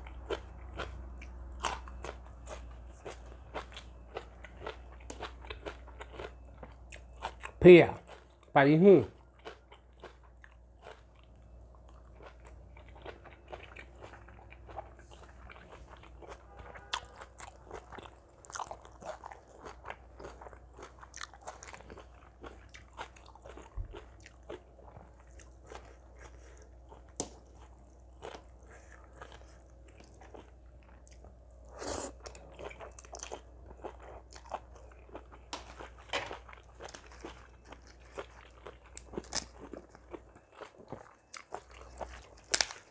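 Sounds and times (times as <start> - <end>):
person chewing and crunching: 0.0 - 8.5, 9.1 - 42.9.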